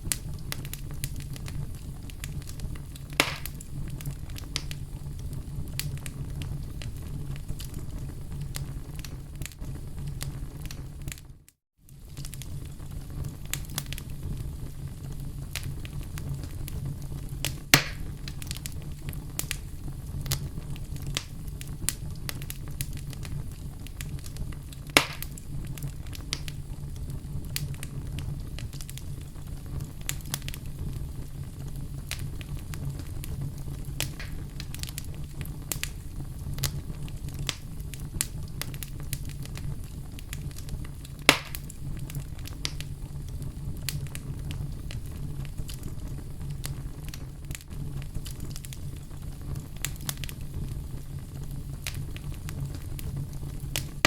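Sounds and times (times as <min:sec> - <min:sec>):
campfire crackling: 0:00.0 - 0:54.0
loud fire pops: 0:00.0 - 0:54.0.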